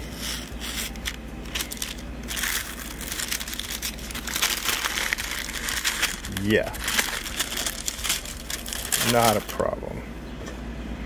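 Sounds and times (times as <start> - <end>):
wax paper crinkling as peeled: 0.1 - 9.7.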